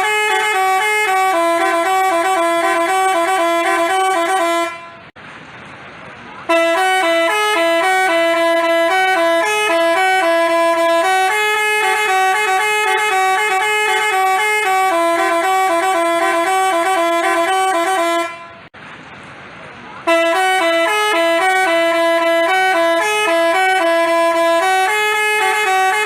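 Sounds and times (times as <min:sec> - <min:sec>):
musical bus horn melody: 0:00.0 - 0:05.2, 0:06.5 - 0:18.8, 0:20.0 - 0:26.0.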